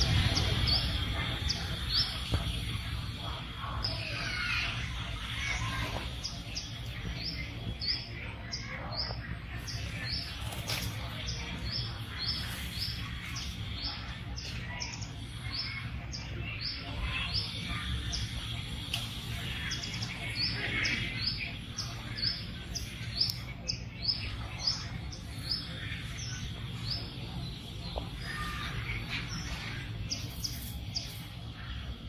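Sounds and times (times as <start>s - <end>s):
low outdoor background: 0.0s - 32.0s.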